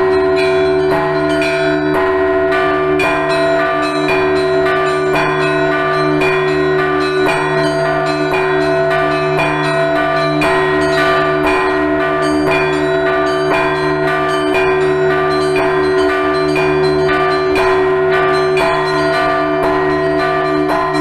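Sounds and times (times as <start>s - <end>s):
hum of large bells: 0.0s - 21.0s
small church bells pealing: 0.0s - 21.0s.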